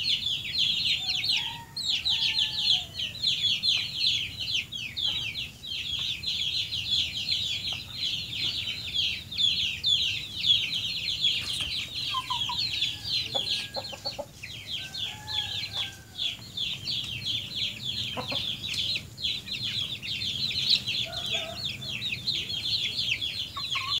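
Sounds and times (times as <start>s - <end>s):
chickens clucking: 0.0s - 24.0s
chicks peeping: 0.0s - 24.0s.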